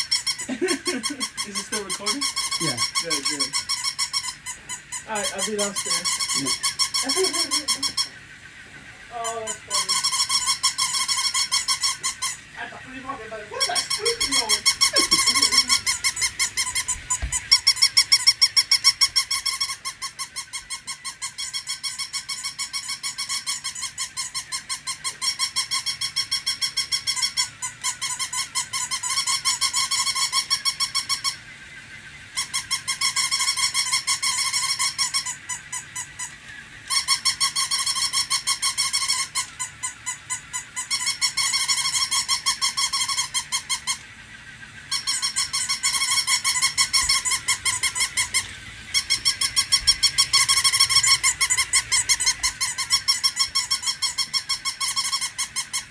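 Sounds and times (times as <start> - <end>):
toy dog electronic yapping: 0.0 - 8.4, 9.1 - 55.9.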